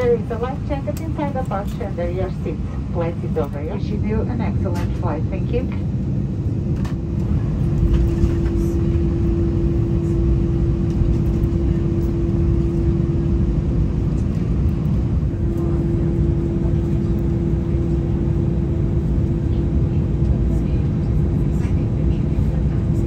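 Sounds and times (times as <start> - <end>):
aircraft cabin rumble: 0.0 - 23.0.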